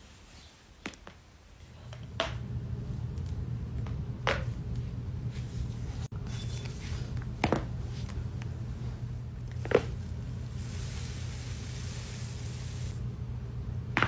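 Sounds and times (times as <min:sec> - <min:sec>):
steady low hum: 0:01.6 - 0:14.0.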